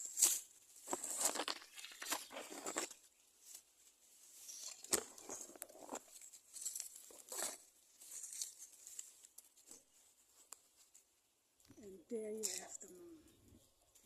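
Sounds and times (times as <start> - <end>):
faint rustling and crinkling: 0.0 - 14.0.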